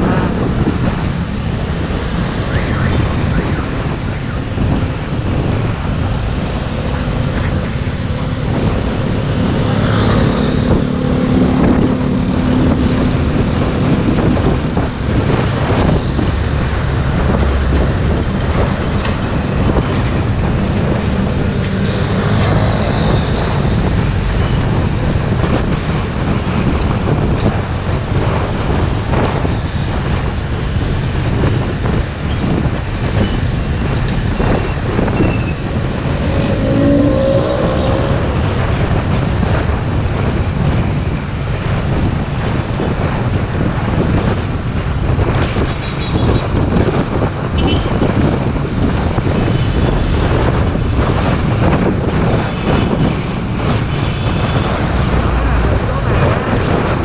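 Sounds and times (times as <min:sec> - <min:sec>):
motorbike and truck traffic: 0:00.0 - 0:57.0
wind and road noise: 0:00.0 - 0:57.0.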